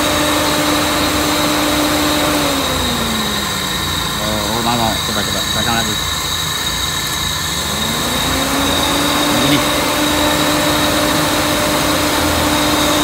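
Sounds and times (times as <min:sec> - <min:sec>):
electric cooling fan spinning: 0:00.0 - 0:13.0.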